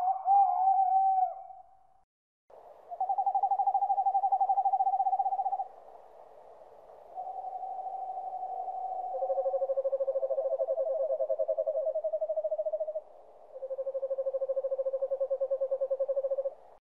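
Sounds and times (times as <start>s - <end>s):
owl trilling: 0.0s - 1.6s, 2.9s - 5.7s, 7.2s - 16.6s.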